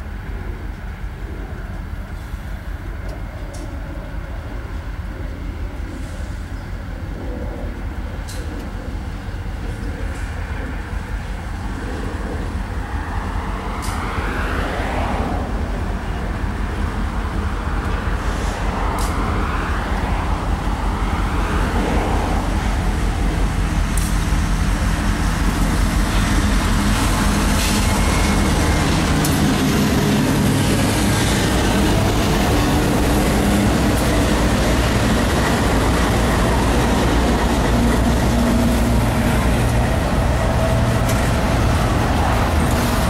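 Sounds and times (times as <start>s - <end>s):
diesel locomotive engine rumble: 0.0s - 43.0s
wheel and rail noise: 0.0s - 43.0s.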